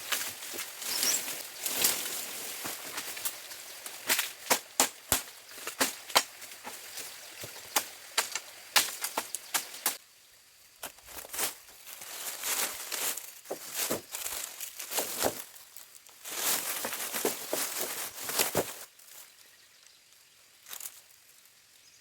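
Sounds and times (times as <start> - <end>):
dry plants crackling and rustling: 0.0 - 10.0, 10.8 - 22.0.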